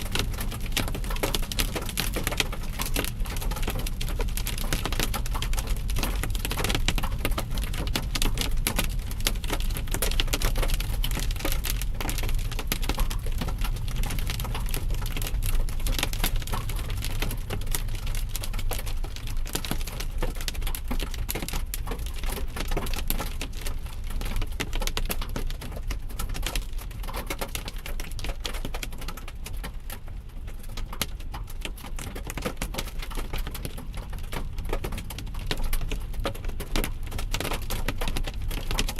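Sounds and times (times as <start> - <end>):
hail pelting a car: 0.0 - 38.9
low road rumble: 0.0 - 38.9.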